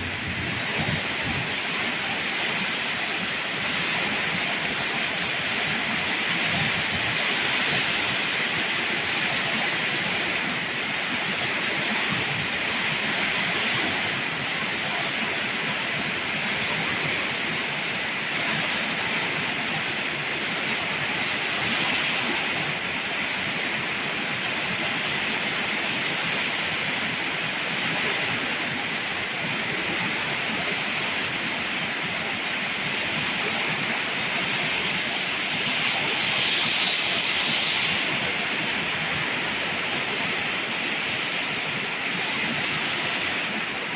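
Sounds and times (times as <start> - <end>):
torrential rain pouring: 0.0 - 43.9.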